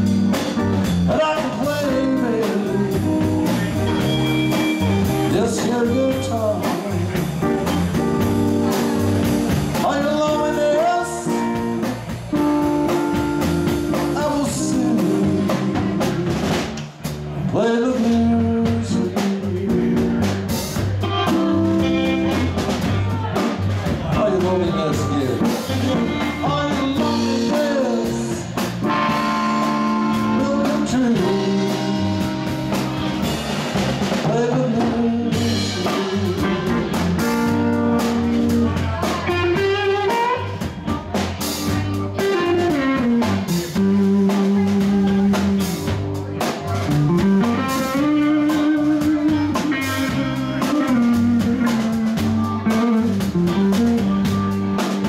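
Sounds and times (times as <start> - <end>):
bass line: 0.0 - 55.0
drum kit: 0.0 - 55.0
electric guitar lead: 0.0 - 55.0.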